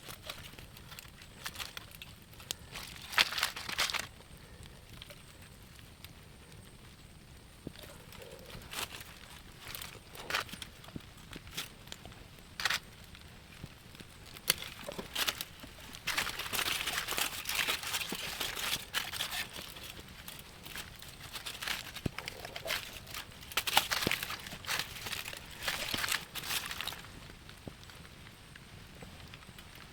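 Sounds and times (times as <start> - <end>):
rustling and crinkling handling: 0.0 - 29.9.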